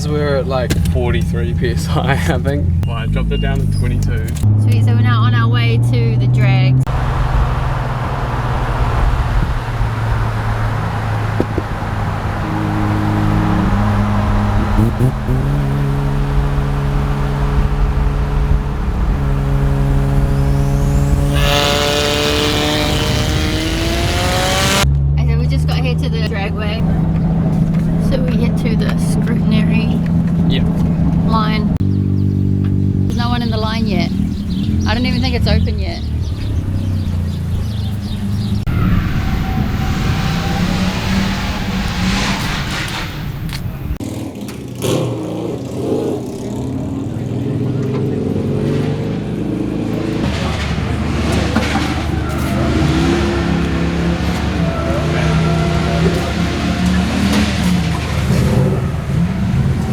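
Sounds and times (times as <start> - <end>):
car engine accelerating: 0.0 - 59.9
road and wind rush: 0.0 - 59.9.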